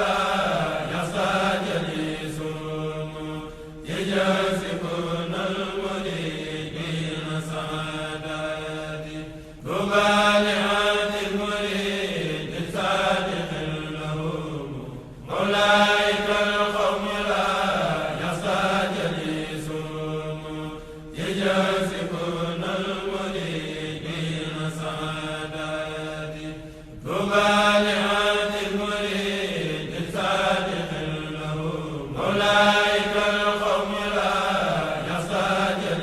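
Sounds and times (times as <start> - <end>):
person chanting: 0.0 - 36.0.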